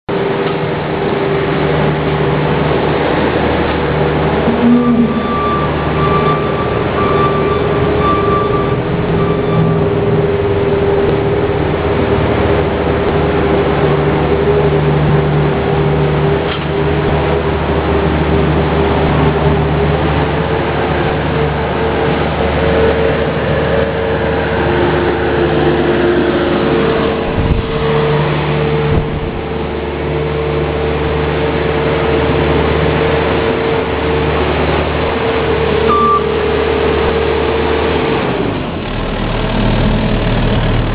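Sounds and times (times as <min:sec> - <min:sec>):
diesel engine running hard: 0:00.0 - 0:40.9
hydraulic whine: 0:00.1 - 0:40.9.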